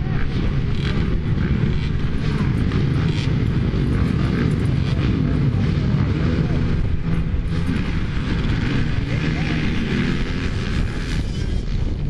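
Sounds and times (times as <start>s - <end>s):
motocross bike engines droning: 0.0s - 12.0s.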